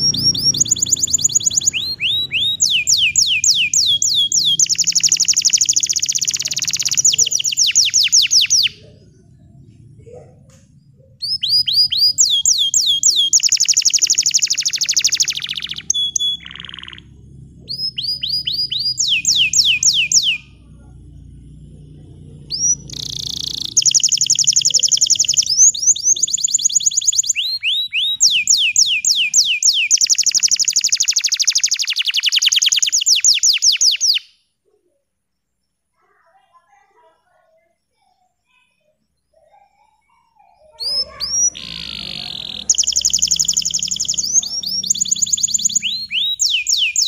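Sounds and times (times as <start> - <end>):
canary singing trills: 0.0 - 35.0, 36.2 - 47.0.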